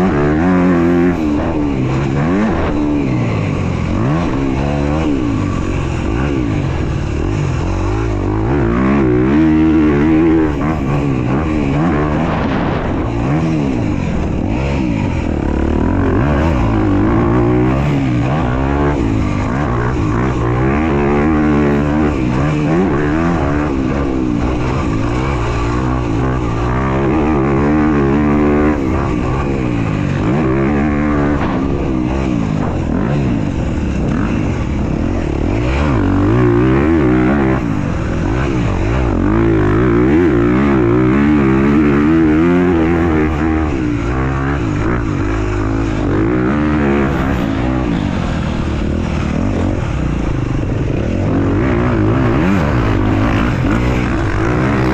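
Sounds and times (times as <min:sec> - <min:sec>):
motocross bike revving: 0:00.0 - 0:54.9.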